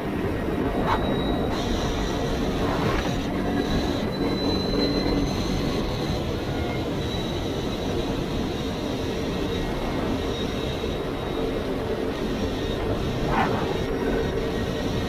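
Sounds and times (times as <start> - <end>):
engine and drivetrain rumble: 0.0 - 15.0
thin high whine: 0.6 - 15.0.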